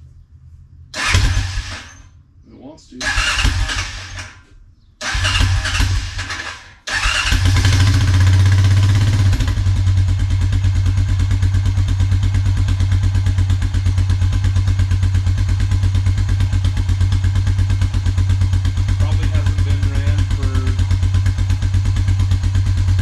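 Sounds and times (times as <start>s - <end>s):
atv engine starting and idling: 1.0s - 2.1s, 3.0s - 23.0s.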